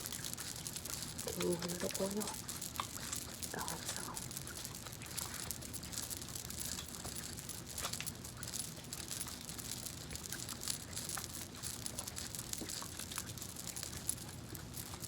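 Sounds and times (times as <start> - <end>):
hands crackling through oily hair: 0.0 - 15.0.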